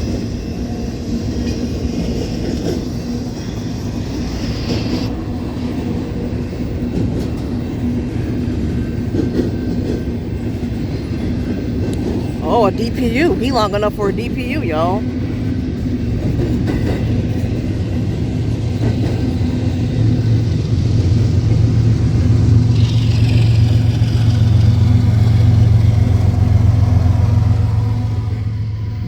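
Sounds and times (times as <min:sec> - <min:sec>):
diesel locomotive drone: 0:00.0 - 0:12.4, 0:15.0 - 0:29.0
train wheels rumbling on rails: 0:00.0 - 0:12.4, 0:15.2 - 0:29.0.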